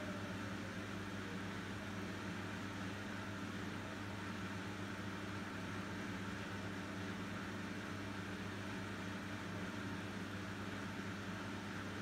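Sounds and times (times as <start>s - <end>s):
washing machine spin hum: 0.0s - 12.0s.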